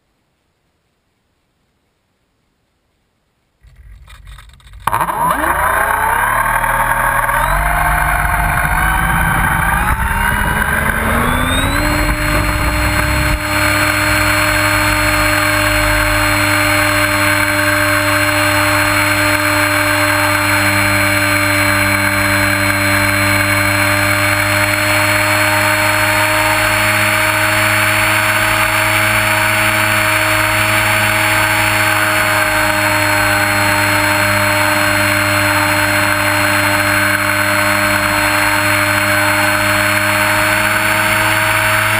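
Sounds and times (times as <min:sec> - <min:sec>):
model airplane motor whining: 0:03.6 - 0:41.9.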